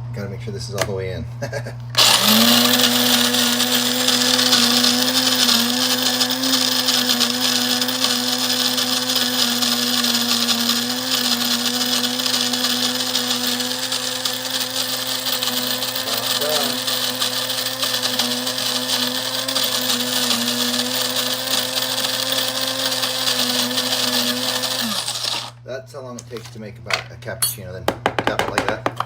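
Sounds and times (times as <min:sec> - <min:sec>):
electric grinder grinding coffee beans: 0:02.0 - 0:25.6.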